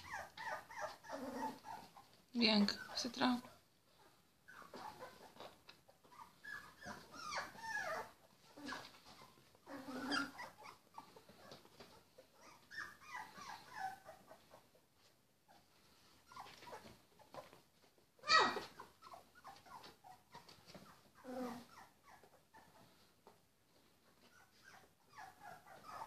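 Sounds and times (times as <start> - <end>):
puppies whimpering and squeaking: 0.0 - 14.8, 15.4 - 17.6, 18.2 - 23.1, 24.0 - 26.0.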